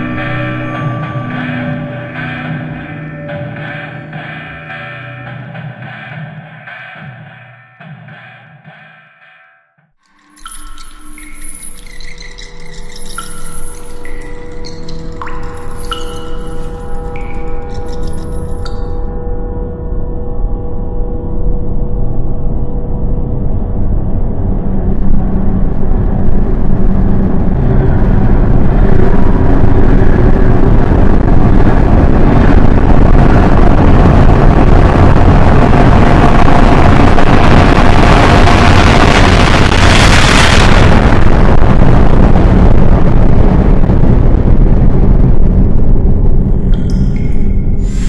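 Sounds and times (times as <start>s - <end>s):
deep rumble: 0.0s - 8.9s, 10.4s - 48.0s.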